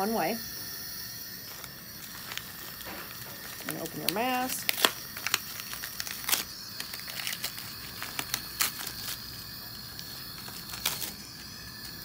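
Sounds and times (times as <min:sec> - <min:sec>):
plastic packaging crinkling: 0:01.5 - 0:12.0.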